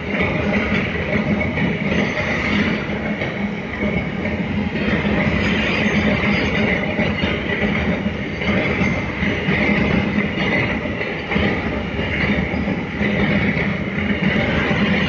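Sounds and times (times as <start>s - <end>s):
freight train wagons rumbling past: 0.0s - 15.0s
steel wheels clattering on rails: 0.0s - 15.0s.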